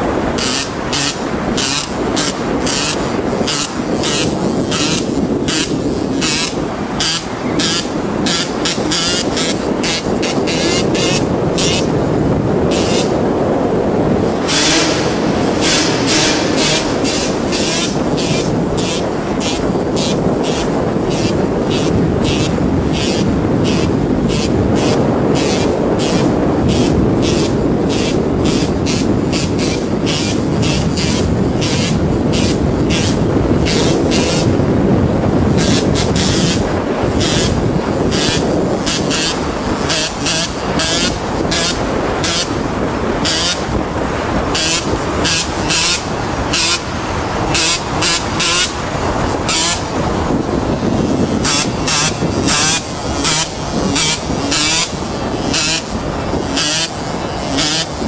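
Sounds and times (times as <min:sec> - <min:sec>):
engine and road rumble: 0:00.0 - 0:58.0
wind buffeting microphone: 0:00.0 - 0:58.0.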